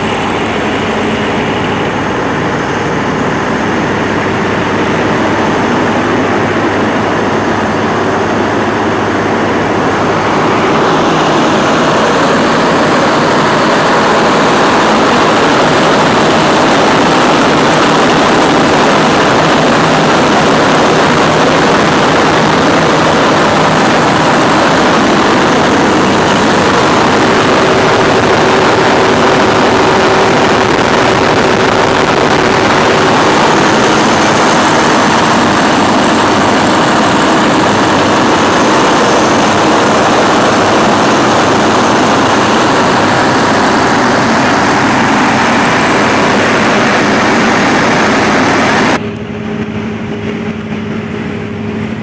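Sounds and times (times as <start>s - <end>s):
diesel generator engine running: 0.0s - 52.0s.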